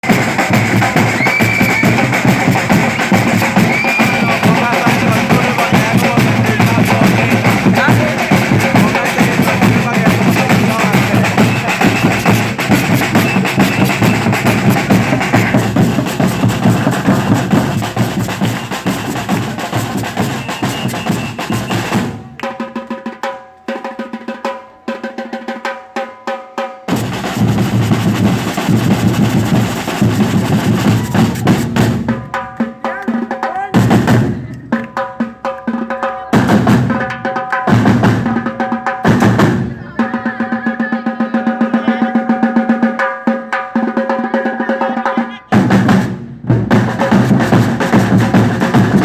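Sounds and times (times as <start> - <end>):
samba drum ensemble: 0.0 - 49.0.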